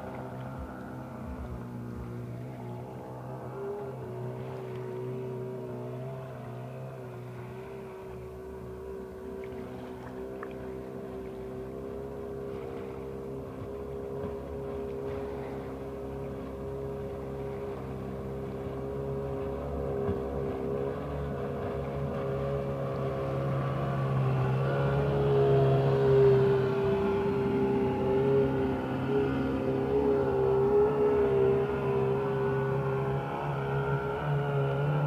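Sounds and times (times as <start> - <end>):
boat engine drone: 0.0 - 35.0.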